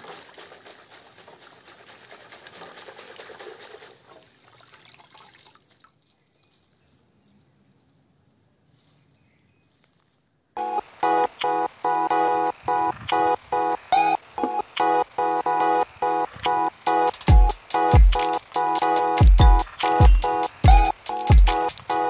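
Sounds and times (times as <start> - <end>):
soil and leaves rustling: 0.0 - 22.0.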